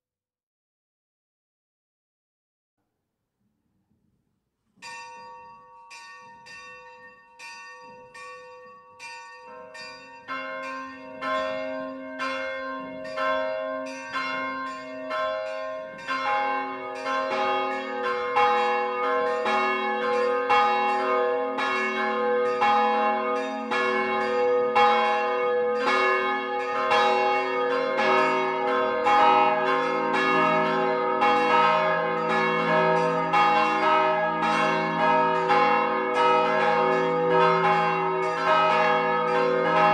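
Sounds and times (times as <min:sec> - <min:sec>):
church bells ringing a peal: 0:04.8 - 0:39.9.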